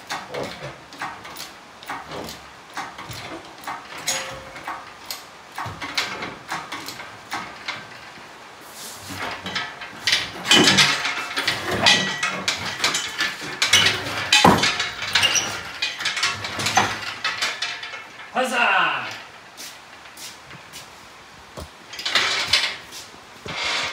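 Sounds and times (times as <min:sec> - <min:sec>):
metal clanks and scrapes: 0:00.0 - 0:18.3, 0:21.9 - 0:23.9.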